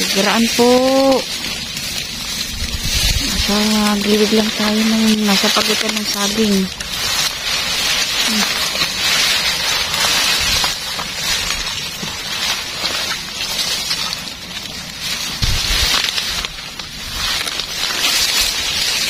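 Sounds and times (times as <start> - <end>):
dry vegetation rustling and crackling: 0.0 - 19.0.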